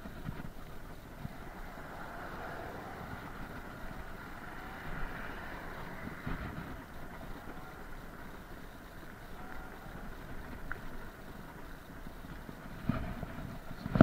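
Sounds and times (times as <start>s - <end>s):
tyre rumble on asphalt: 0.0s - 14.0s
wind buffeting microphone: 0.0s - 14.0s.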